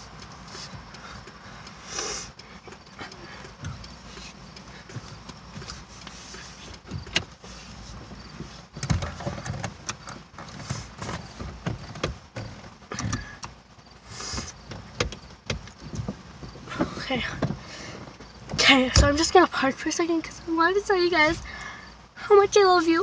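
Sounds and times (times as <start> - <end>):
irregular clicks and knocks: 0.0 - 19.4
road rumble inside van: 0.0 - 23.0.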